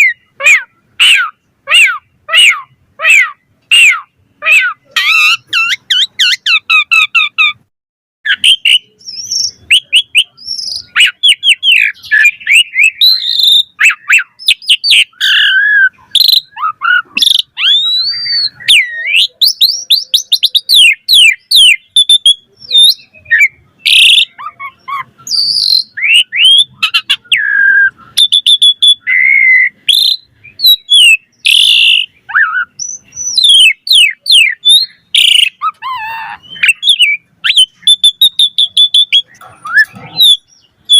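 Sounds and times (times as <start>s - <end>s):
starling singing varied song: 0.0s - 7.7s, 8.3s - 40.9s.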